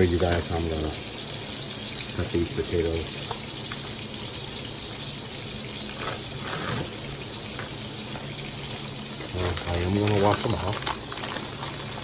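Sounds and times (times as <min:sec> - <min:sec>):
cooking hiss on stovetop: 0:00.0 - 0:12.0.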